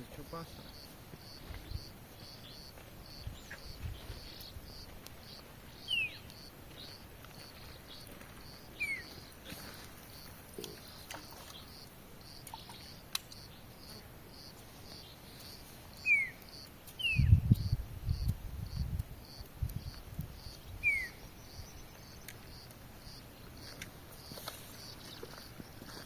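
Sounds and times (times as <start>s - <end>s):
falling bird calls: 0.0s - 14.0s, 14.7s - 17.3s, 20.4s - 26.0s
insect chirping: 0.0s - 26.0s.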